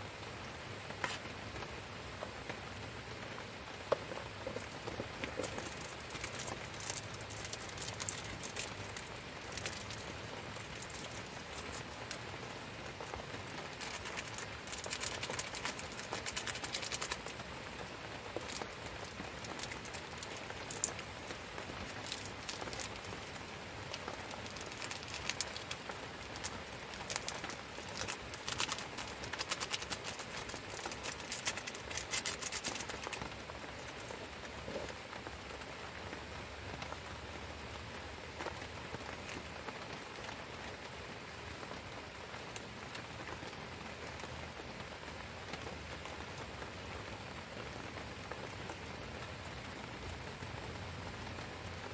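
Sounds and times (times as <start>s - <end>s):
rain pattering: 0.0s - 51.9s.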